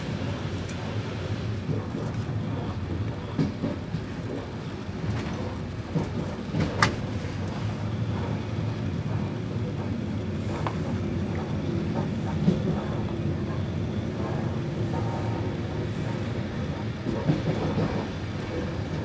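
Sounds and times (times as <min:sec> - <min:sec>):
train carriage rumble: 0:00.0 - 0:19.0.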